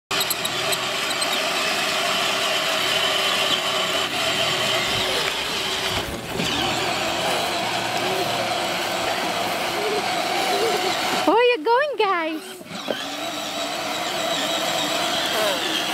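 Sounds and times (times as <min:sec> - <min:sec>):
toy car electric motors whirring: 0:00.1 - 0:15.9.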